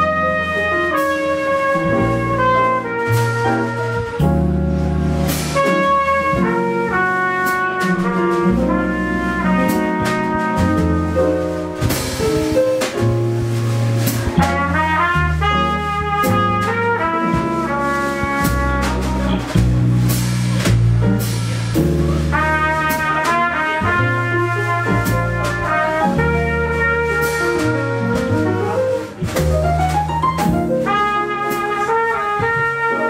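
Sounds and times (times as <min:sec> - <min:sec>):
plucked double bass: 0:00.0 - 0:33.0
trumpet melody: 0:00.0 - 0:33.0
drums and cymbals: 0:00.1 - 0:33.0.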